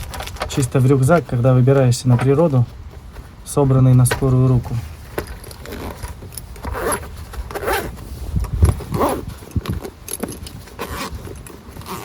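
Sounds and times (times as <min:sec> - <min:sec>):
gear rustling and scraping: 0:00.0 - 0:12.0.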